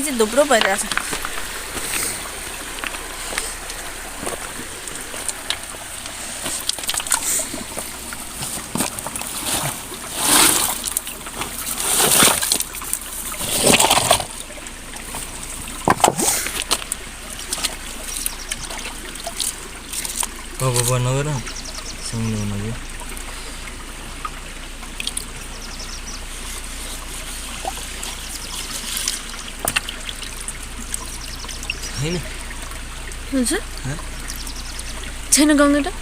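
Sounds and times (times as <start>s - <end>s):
water splashing and sloshing: 0.0s - 36.0s.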